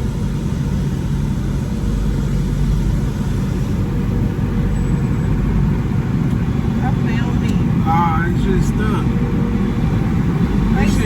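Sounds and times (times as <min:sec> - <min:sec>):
car wash rumble and hiss: 0:00.0 - 0:11.0.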